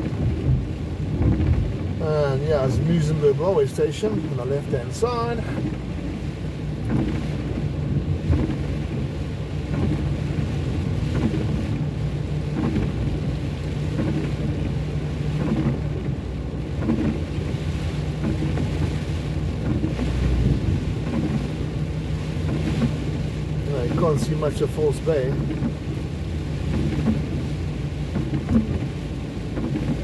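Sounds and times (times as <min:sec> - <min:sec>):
car engine and road hum: 0:00.0 - 0:30.0
rain hissing on a car: 0:00.0 - 0:30.0.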